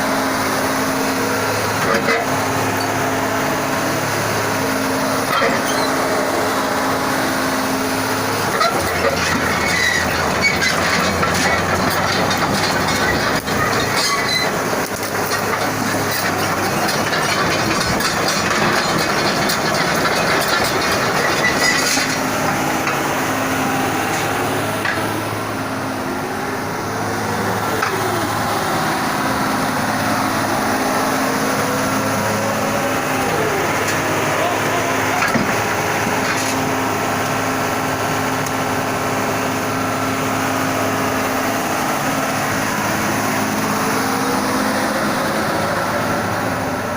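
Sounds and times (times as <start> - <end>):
hydraulic whines: 0.0 - 40.1
excavator diesel engine running: 0.0 - 46.9.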